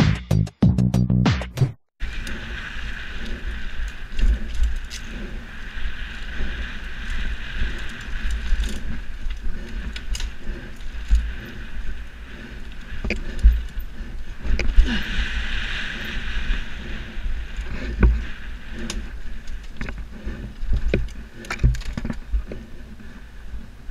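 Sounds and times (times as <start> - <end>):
bike rattling over bumps: 2.0 - 23.9
wind rumbling on microphone: 2.0 - 23.9.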